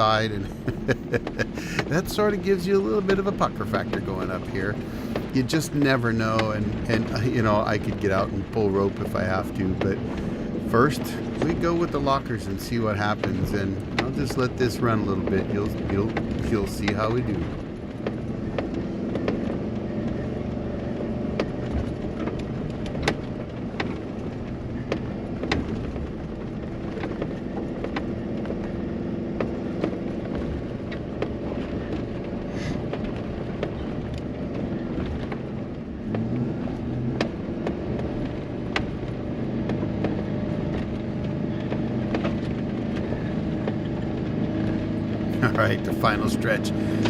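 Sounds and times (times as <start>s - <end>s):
car engine pulling under load: 0.0s - 47.0s
sharp clicks and knocks: 0.0s - 47.0s.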